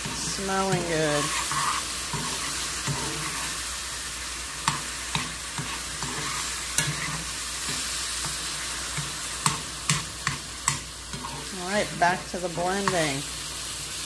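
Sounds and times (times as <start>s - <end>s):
pears sizzling in a frying pan: 0.0s - 14.0s.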